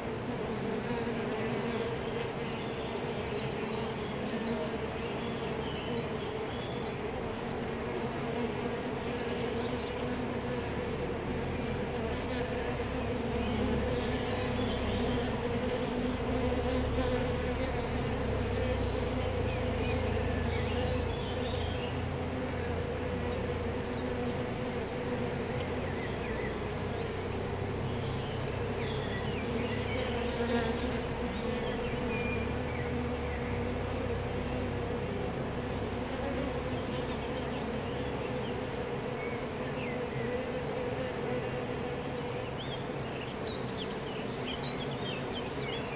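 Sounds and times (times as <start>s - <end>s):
bees buzzing: 0.0s - 45.9s.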